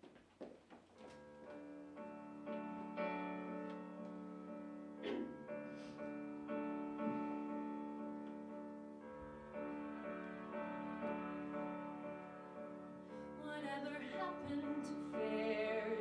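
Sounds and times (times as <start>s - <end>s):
piano playing slow chords: 1.0s - 16.0s.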